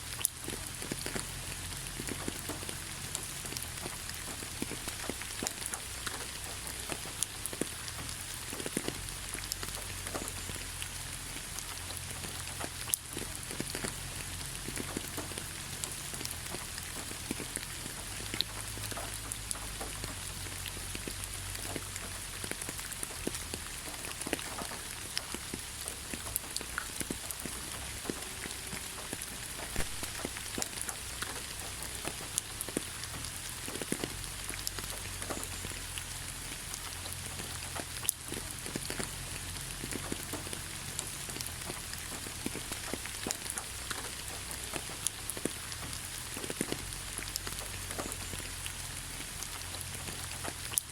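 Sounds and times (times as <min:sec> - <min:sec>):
raindrops ticking: 0:00.0 - 0:50.9
steady rain falling: 0:00.0 - 0:50.9.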